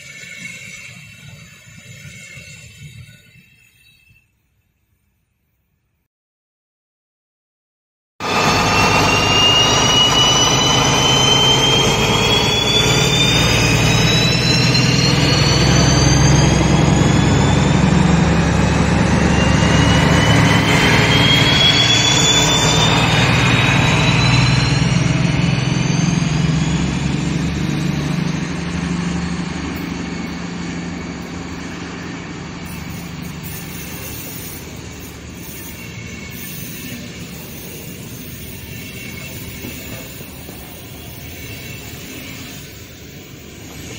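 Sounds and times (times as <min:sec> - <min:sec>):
train coaches rolling by: 0:00.0 - 0:05.1, 0:08.2 - 0:43.9
diesel locomotive engine rumble: 0:08.2 - 0:43.9
high engine whines: 0:08.2 - 0:43.9.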